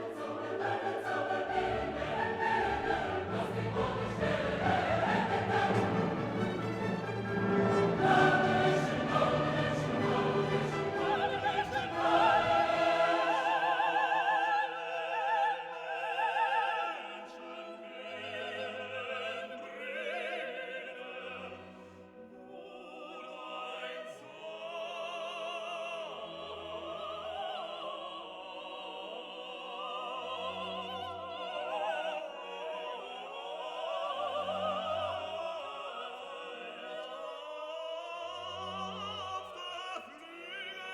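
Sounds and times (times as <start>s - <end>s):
operatic singing with orchestra: 0.0s - 40.9s.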